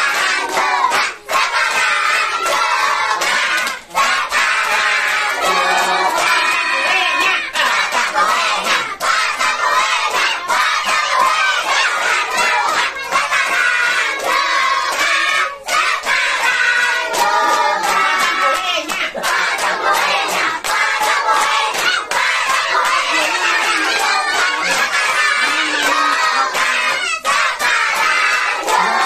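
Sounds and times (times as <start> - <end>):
children shouting together: 0.0 - 29.0
hand claps: 0.0 - 29.0.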